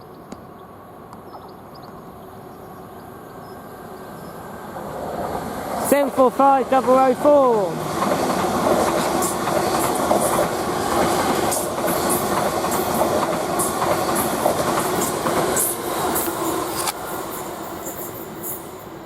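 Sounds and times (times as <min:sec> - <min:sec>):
train wheel and rail noise: 0:00.0 - 0:19.0.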